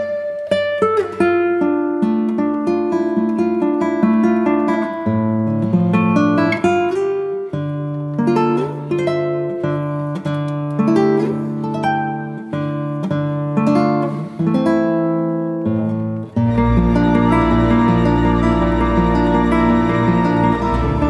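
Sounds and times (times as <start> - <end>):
solo acoustic guitar: 0.0 - 21.0.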